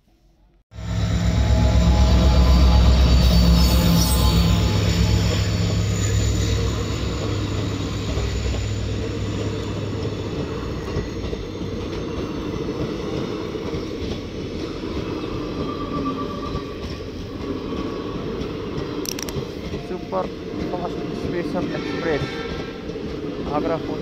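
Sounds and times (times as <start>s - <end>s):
locomotive engine drone: 0.7s - 21.1s
train wheels rumbling on rails: 0.7s - 24.0s.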